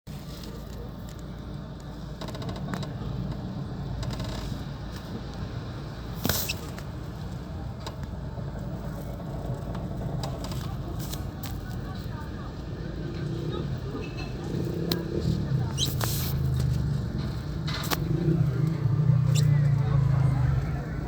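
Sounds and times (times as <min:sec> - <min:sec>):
low street rumble: 0:00.1 - 0:21.0.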